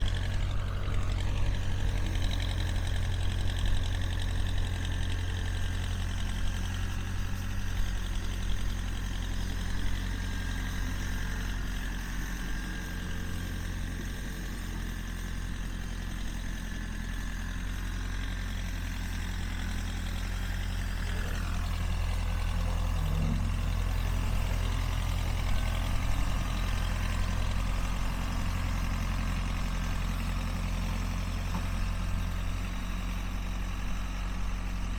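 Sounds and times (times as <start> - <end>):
backhoe engine idling: 0.0 - 34.9.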